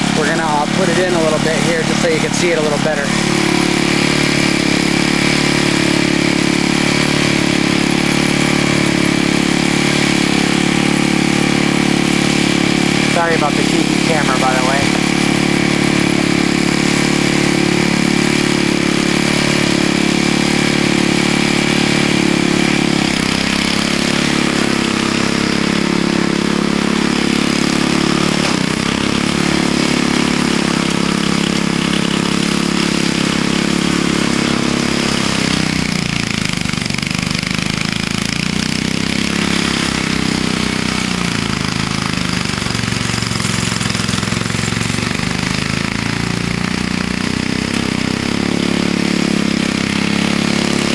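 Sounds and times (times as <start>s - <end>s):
snowblower engine running: 0.0s - 50.9s.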